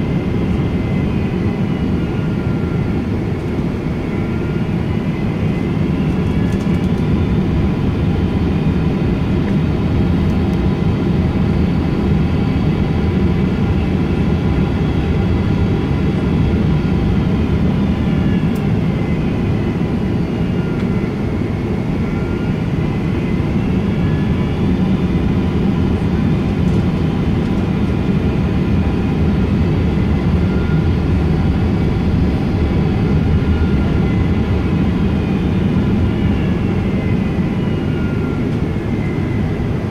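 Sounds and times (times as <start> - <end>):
high engine whine: 0.0 - 39.9
jet engine and airflow rumble: 0.0 - 39.9.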